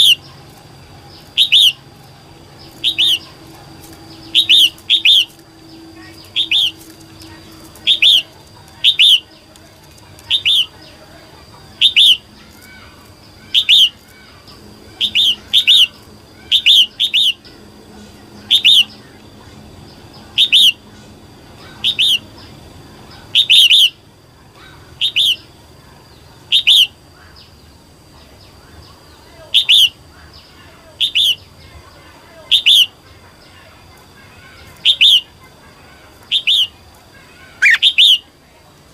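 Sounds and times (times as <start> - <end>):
bird high-pitched calls: 0.0 - 38.4.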